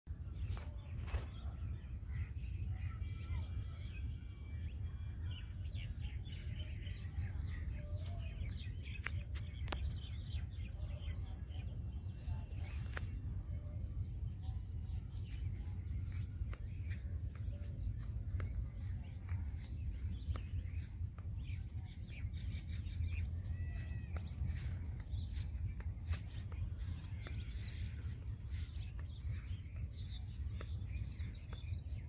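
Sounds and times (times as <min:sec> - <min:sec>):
birds chirping and calling: 0:00.3 - 0:32.0.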